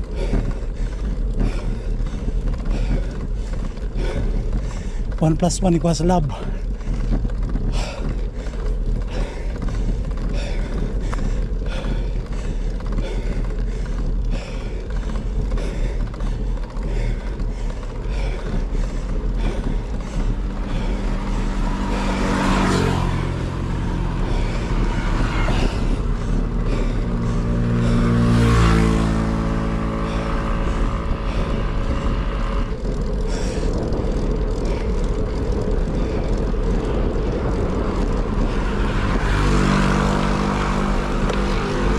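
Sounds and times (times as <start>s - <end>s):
vehicles passing by: 0.0s - 41.9s
wind rushing over microphone: 0.0s - 41.9s.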